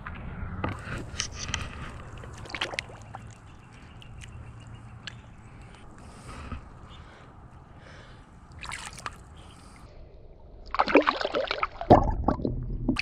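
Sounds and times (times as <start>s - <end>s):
water splashing and sloshing: 0.7s - 6.5s, 7.9s - 13.0s.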